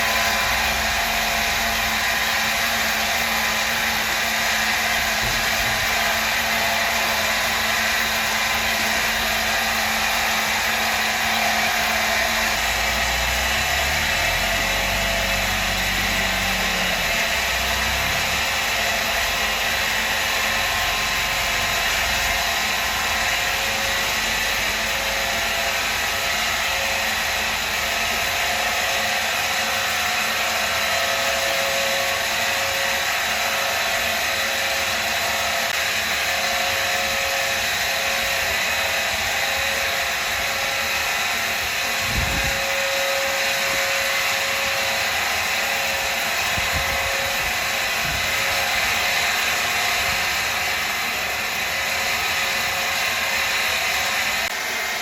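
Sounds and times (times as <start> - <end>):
machine high-pitched whir: 0.0 - 55.0.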